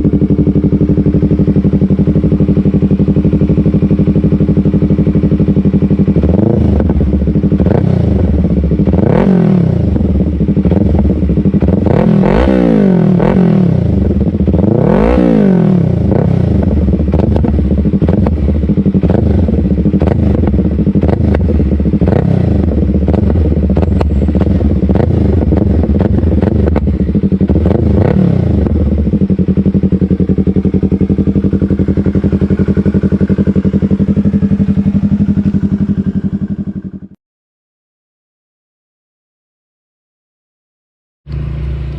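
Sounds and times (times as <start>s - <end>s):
motorcycle engine idling and revving: 0.0s - 37.2s, 41.3s - 41.9s.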